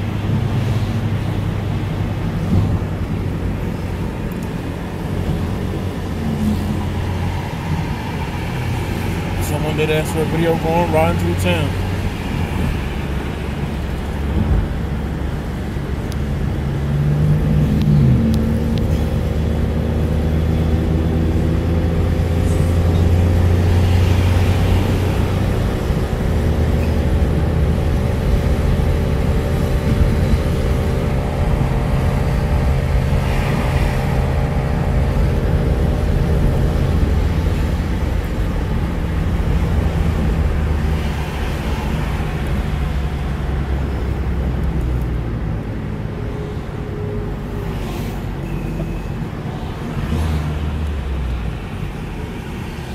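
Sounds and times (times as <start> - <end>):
car engine and tyre rumble: 0.0 - 52.9
engine hum rising in pitch: 0.0 - 52.9.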